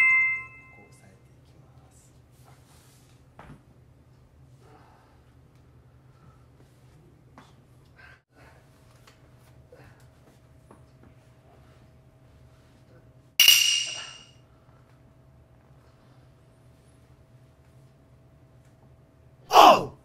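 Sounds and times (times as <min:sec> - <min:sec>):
faint steady hum: 0:00.0 - 0:19.8.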